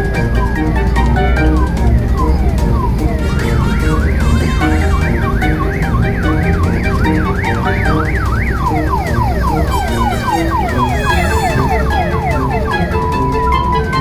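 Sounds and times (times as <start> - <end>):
background music: 0.0 - 14.0
electronic siren wailing: 0.0 - 14.0.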